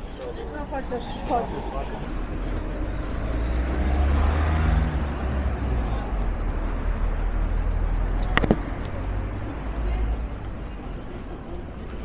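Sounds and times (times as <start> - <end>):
motor vehicle passing: 0.4 - 10.5.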